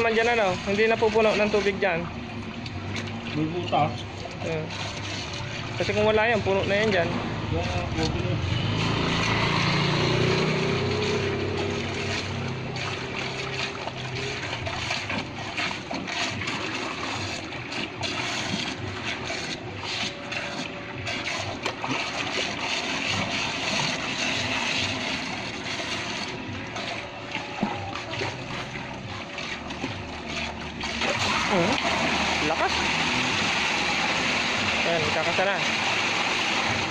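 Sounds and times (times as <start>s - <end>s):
water spraying and splashing: 0.0s - 36.9s.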